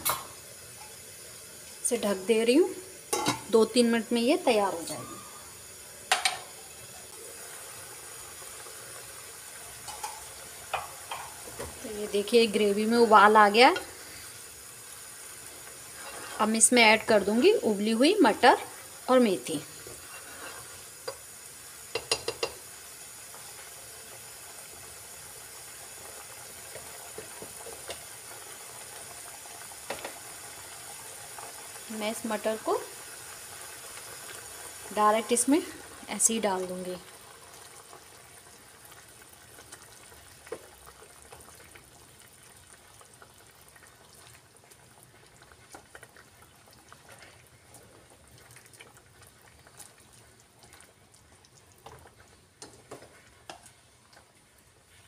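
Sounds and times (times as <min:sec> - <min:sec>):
gravy boiling hiss: 0:00.0 - 0:55.0.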